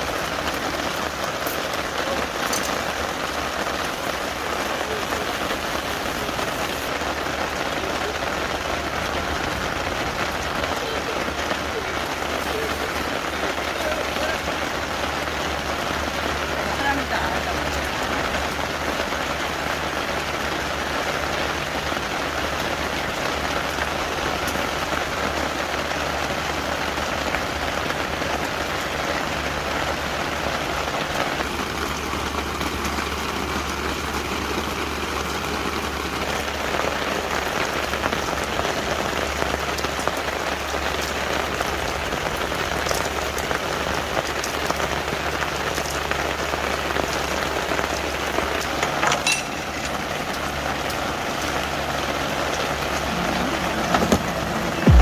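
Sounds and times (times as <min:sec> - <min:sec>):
raindrop ticks: 0:00.0 - 0:55.0
steady rain hiss: 0:00.0 - 0:55.0.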